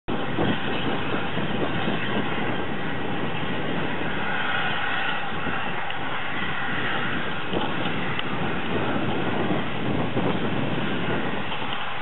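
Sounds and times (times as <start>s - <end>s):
steam locomotive exhaust rushing: 0.1s - 12.0s.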